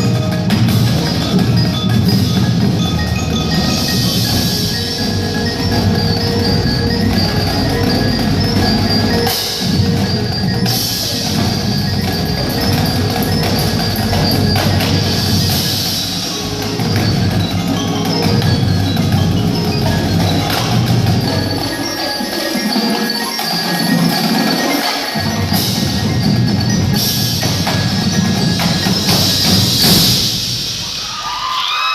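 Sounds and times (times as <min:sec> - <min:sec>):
glockenspiel: 0:00.0 - 0:31.5
chimes: 0:00.0 - 0:31.6
drums: 0:00.0 - 0:31.9
marimba: 0:00.0 - 0:31.9.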